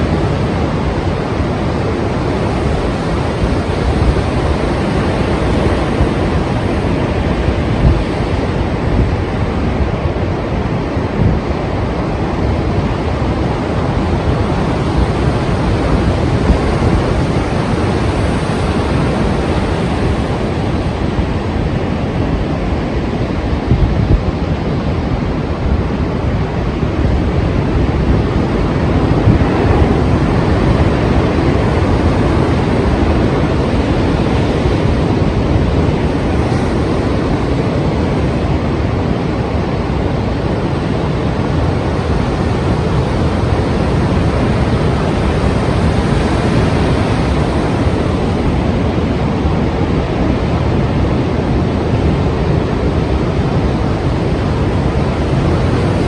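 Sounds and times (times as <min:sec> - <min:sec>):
sea surf breaking: 0:00.0 - 0:56.0
wind blowing: 0:00.0 - 0:56.0.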